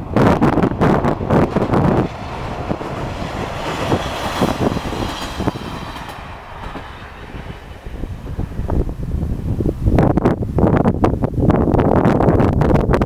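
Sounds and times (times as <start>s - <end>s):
train rumbling over a bridge: 0.0s - 11.5s
wind buffeting the microphone: 0.0s - 13.0s.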